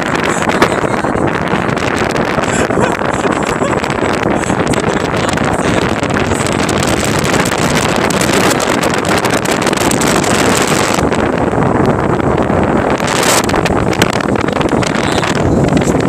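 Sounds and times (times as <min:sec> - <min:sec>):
boat engine: 0:00.0 - 0:16.0
waves: 0:00.0 - 0:16.0
wind on microphone: 0:00.0 - 0:16.0.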